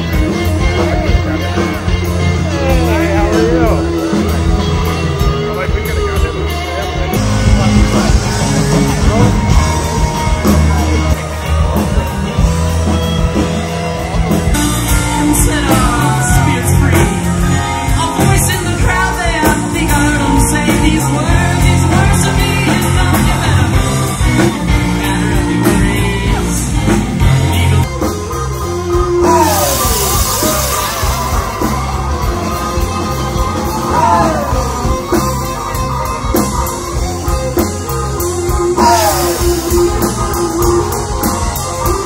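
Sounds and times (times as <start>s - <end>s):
rock music with singing: 0.0s - 42.0s.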